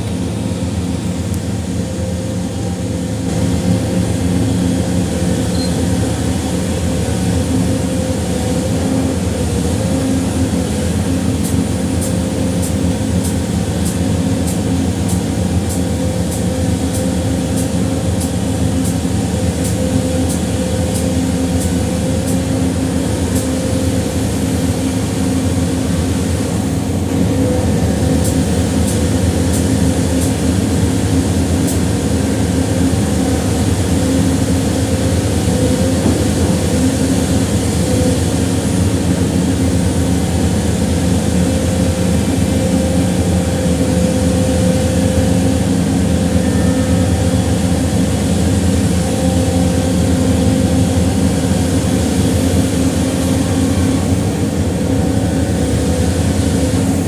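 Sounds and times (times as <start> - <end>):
concrete mixer engine running: 0.0 - 57.0.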